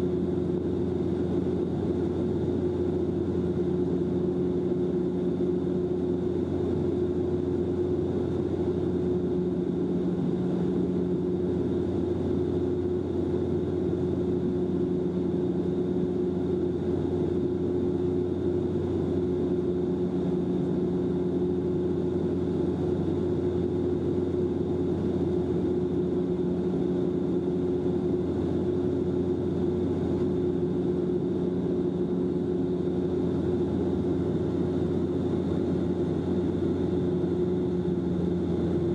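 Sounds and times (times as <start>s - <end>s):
aircraft cabin engine drone: 0.0s - 38.9s.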